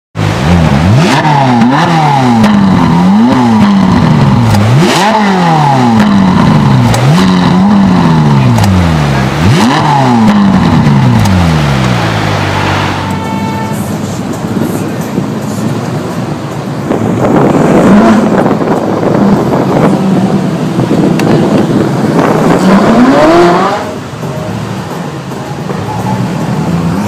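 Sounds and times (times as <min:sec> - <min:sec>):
car engine revving: 0:00.2 - 0:27.0.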